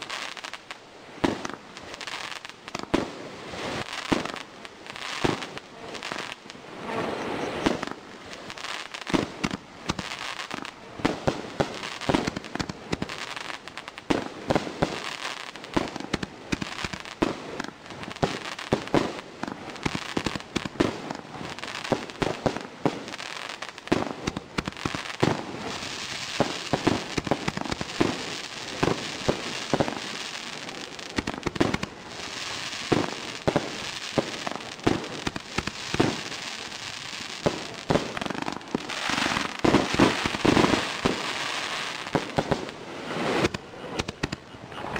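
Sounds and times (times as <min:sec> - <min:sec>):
continuous noisy haze: 0:00.0 - 0:44.9
fireworks bangs: 0:00.0 - 0:44.9.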